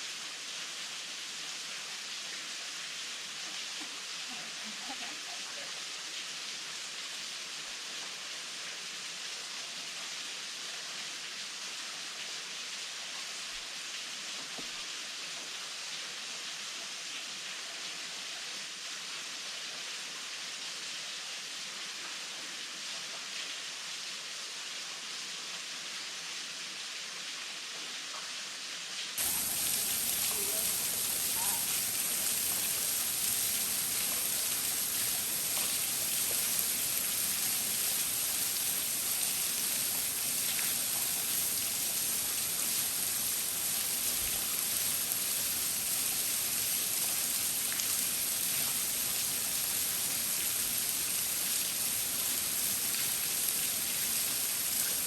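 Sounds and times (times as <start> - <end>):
small waterfall hissing: 0.0 - 55.0.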